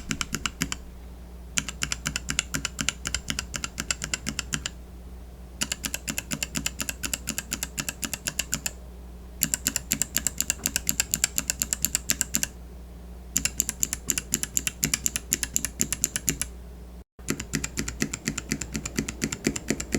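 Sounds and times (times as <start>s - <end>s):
keyboard switches clicking rapidly: 0.0s - 0.8s, 1.6s - 4.8s, 5.6s - 8.8s, 9.4s - 12.5s, 13.4s - 16.5s, 17.2s - 19.9s.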